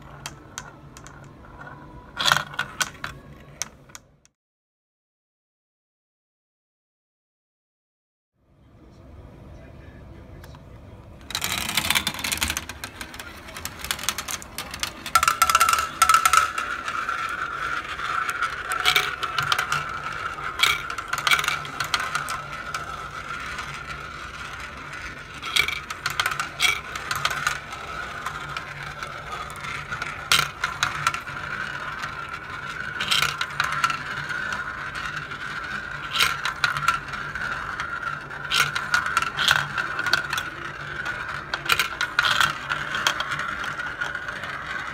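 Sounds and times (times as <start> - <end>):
marbles clicking: 0.0 - 4.0, 11.2 - 44.9
marbles rolling whir: 0.0 - 4.0, 11.2 - 44.9.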